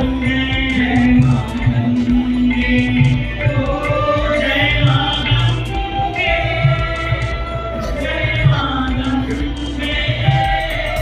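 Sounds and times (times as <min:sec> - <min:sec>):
low repeated drum beats: 0:00.0 - 0:11.0
person singing devotional song: 0:00.0 - 0:11.0.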